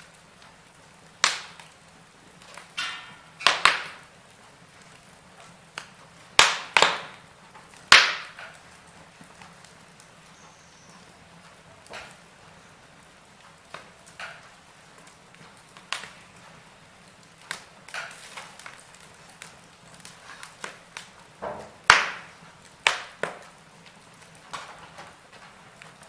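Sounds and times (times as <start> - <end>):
loud fire pops: 0.0 - 11.2, 11.8 - 26.0
wood fire crackling: 0.0 - 26.0.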